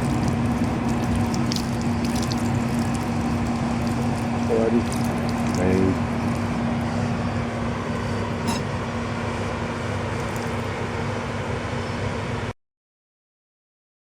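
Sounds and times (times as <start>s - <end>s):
steady mechanical hum: 0.0s - 12.6s.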